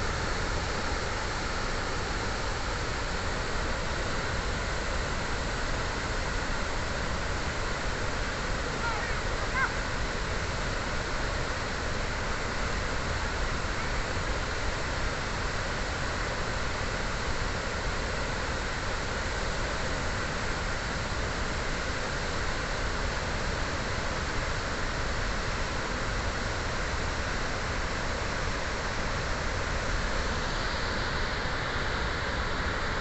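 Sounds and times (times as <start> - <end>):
water rushing over spillway: 0.0 - 33.0.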